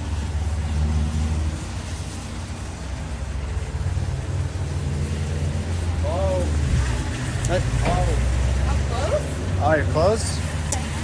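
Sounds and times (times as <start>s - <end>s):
car driving slowly past: 0.0s - 11.0s.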